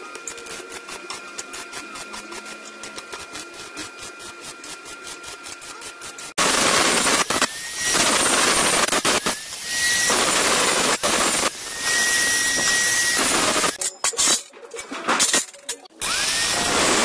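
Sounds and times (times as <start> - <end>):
angle grinder cutting steel: 0.0 - 13.8, 16.0 - 17.0.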